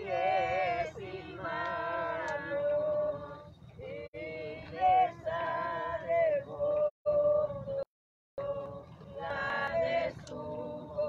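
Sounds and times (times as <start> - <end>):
group singing a hymn: 0.0 - 7.8, 8.4 - 11.0.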